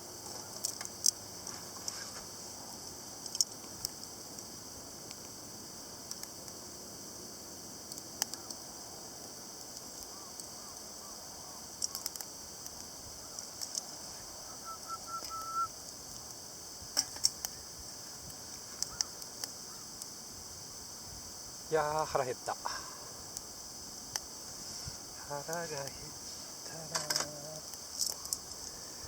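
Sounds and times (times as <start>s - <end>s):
campfire crackling and popping: 0.1s - 29.0s.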